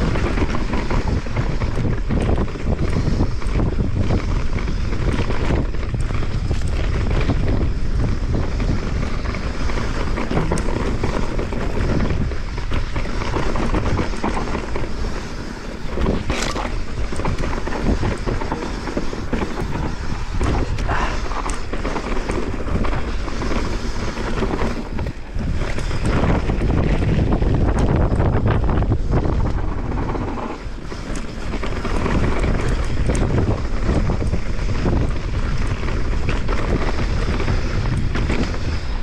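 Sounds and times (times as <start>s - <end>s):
bike rattles and knocks: 0.0s - 39.0s
bike tyres rumbling on dirt: 0.0s - 39.0s
wind buffeting microphone: 0.0s - 39.0s.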